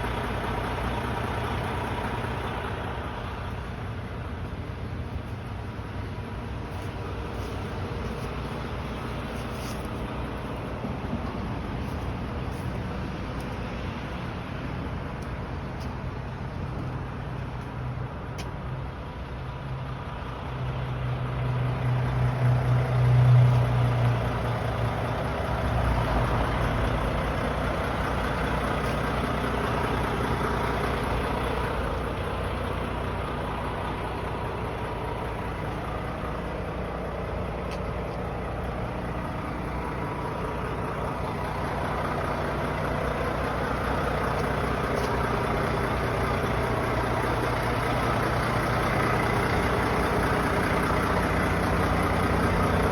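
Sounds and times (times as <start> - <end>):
truck engine idling: 0.0 - 52.9.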